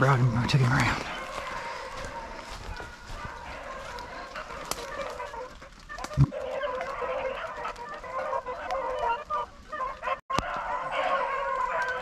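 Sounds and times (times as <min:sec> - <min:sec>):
dogs baying: 0:01.0 - 0:12.0.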